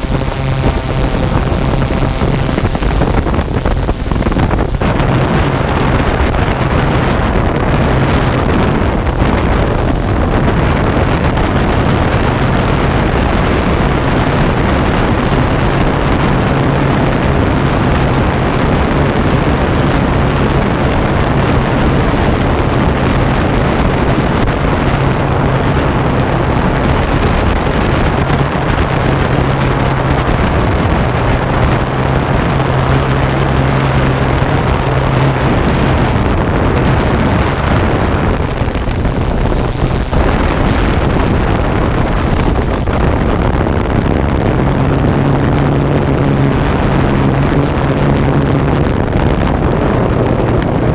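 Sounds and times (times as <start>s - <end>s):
drone propellers buzzing: 0.0s - 50.9s
wind on microphone: 0.0s - 50.9s.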